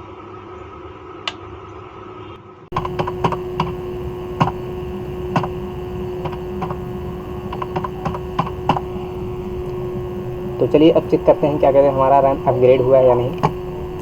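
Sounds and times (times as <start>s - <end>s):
computer hum: 2.7s - 14.0s
held tone: 2.7s - 14.0s.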